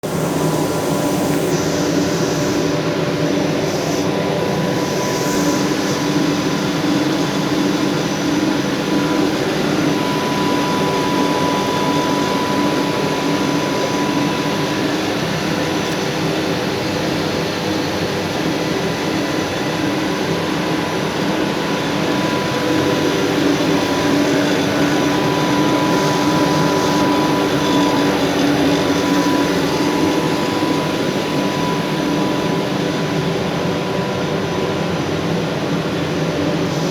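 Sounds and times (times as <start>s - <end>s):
machine mechanical drone: 0.0s - 36.9s
thin high whine: 0.0s - 36.9s.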